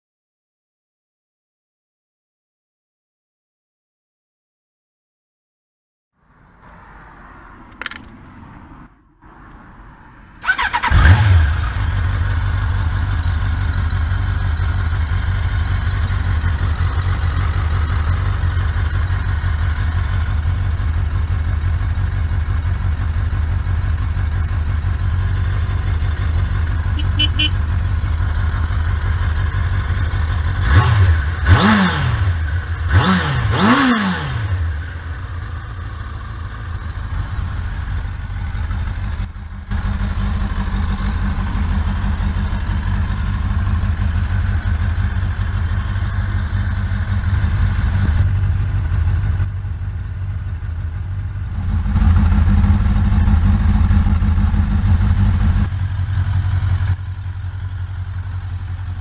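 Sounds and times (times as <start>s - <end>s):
motorcycle engine starting and idling: 7.7s - 8.2s, 10.4s - 59.0s
motorcycle engine revving: 10.4s - 59.0s.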